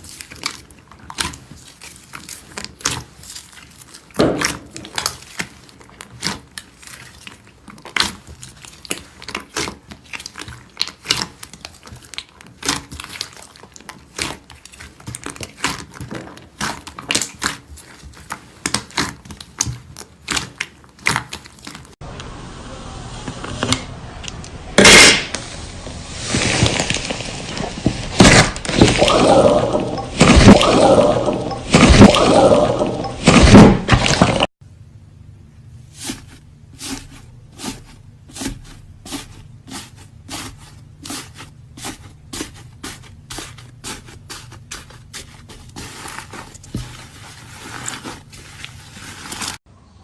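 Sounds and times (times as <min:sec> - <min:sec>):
slime wet squishing: 0:00.0 - 0:22.0, 0:26.2 - 0:34.5, 0:35.9 - 0:49.6.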